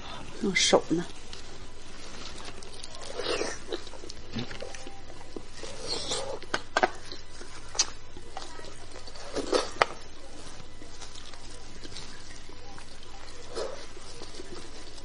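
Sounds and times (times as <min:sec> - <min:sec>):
wet chewing and slurping: 0:00.0 - 0:15.0.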